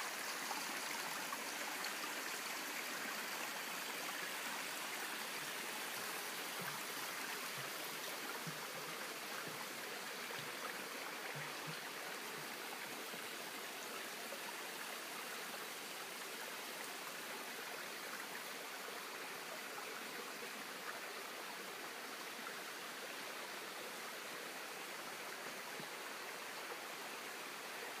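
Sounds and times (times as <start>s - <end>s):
brook babbling over rocks: 0.0s - 28.0s
water gurgles: 0.0s - 28.0s.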